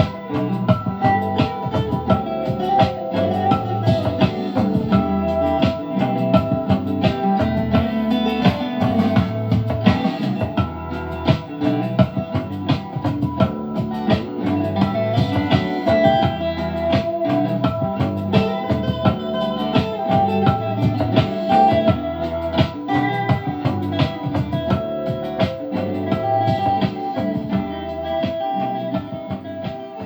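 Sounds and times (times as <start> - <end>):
music with a beat through speaker: 0.0 - 30.0.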